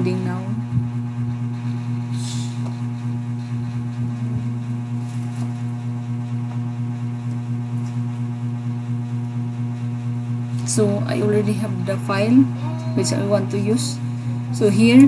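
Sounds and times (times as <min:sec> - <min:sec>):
low hum with higher overtone: 0:00.0 - 0:15.0.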